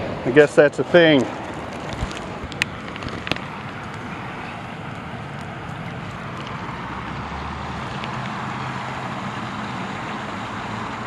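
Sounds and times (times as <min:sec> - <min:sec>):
water pouring over dam spillway: 0:00.1 - 0:11.0.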